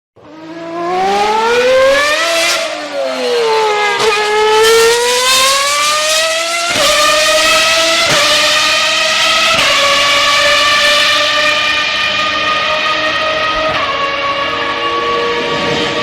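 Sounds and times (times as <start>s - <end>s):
racing car engine at high revs: 0.2s - 16.0s.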